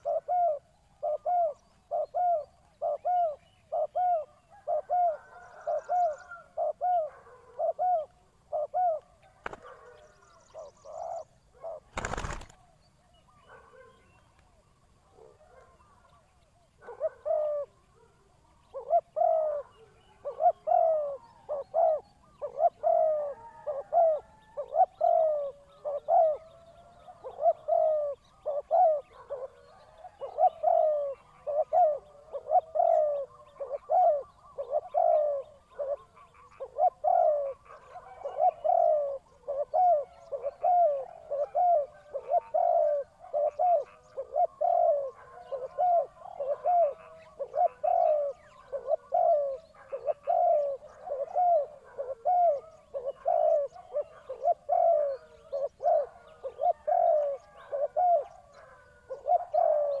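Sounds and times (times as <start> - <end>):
dove cooing: 0.0 - 14.1, 16.8 - 60.0.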